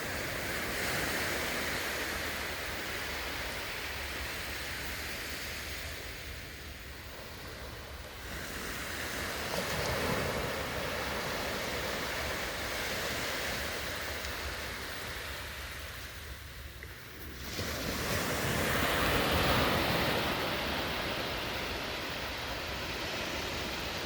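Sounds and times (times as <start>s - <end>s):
sea waves breaking on shore: 0.0s - 24.0s
wind rumbling on microphone: 0.0s - 24.0s.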